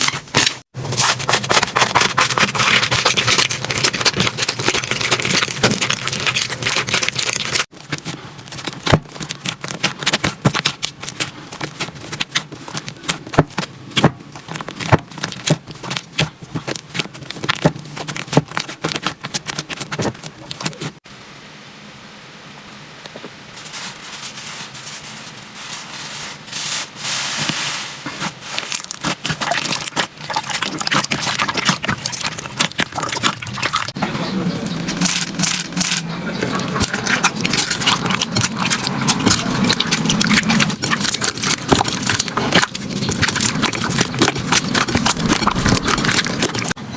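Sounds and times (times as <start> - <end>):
slime crackling and popping: 0.0 - 20.9, 28.5 - 34.0, 34.8 - 46.8.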